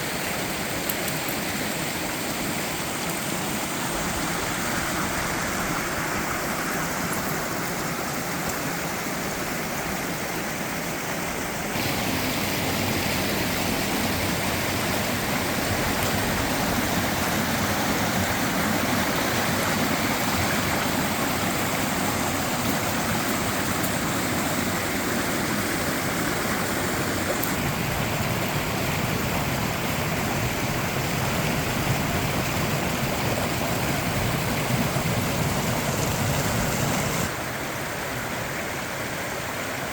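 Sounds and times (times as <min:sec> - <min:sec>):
stream water cascading: 0:00.0 - 0:39.9.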